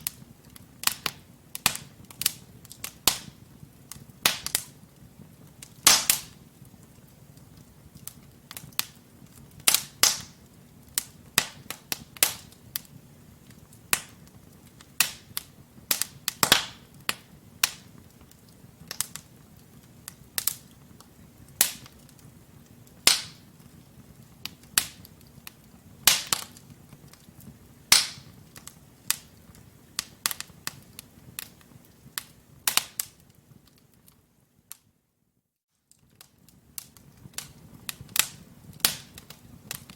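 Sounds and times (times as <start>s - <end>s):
logs crackling and popping: 0.0s - 34.9s, 35.8s - 39.9s
low rumble of flames: 0.0s - 35.0s, 35.9s - 39.9s.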